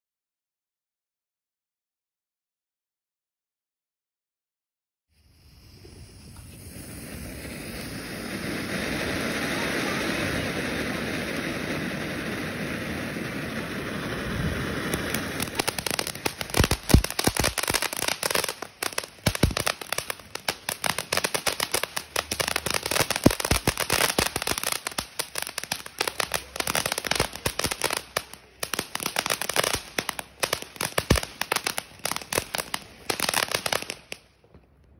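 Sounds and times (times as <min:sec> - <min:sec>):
firework fountain hissing: 0:05.1 - 0:34.6
firework crackling: 0:05.1 - 0:34.9.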